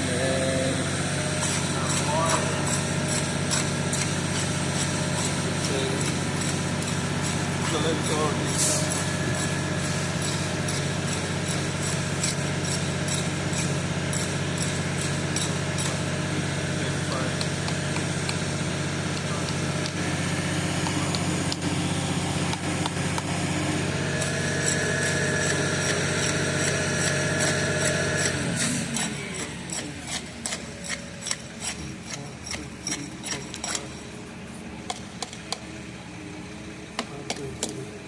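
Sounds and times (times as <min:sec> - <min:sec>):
engine running steadily: 0:00.0 - 0:38.0.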